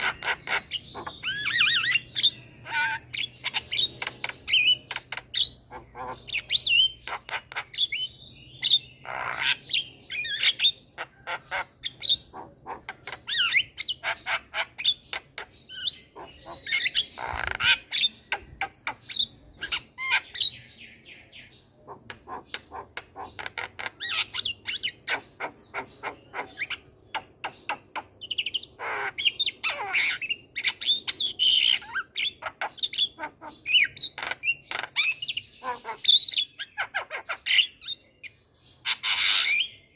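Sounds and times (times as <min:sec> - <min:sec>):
bird squawks: 0:00.0 - 0:20.6, 0:21.8 - 0:38.2, 0:38.8 - 0:39.8
myna bird singing: 0:00.0 - 0:39.9.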